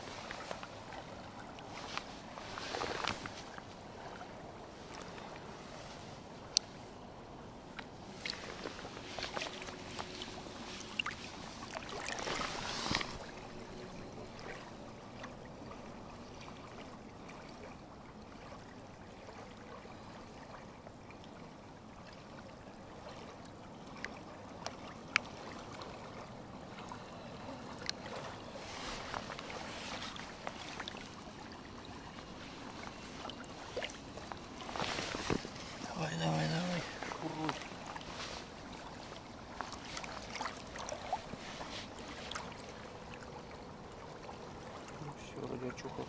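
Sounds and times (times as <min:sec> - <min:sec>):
lake water lapping and splashing: 0:00.0 - 0:46.0.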